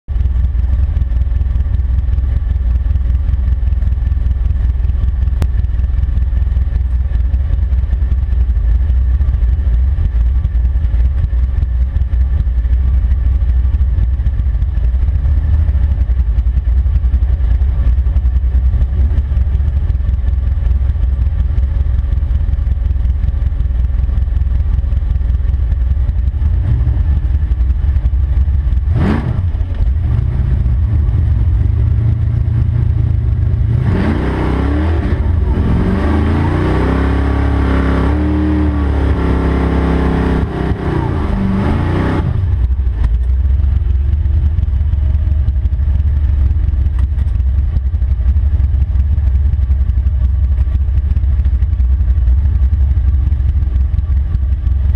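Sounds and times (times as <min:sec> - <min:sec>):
car engine idling rumble: 0:00.1 - 0:54.9.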